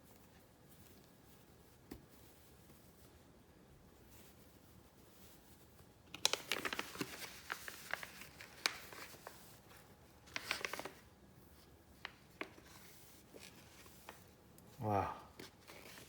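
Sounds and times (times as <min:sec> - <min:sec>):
wrapping rustling: 0:00.0 - 0:16.0.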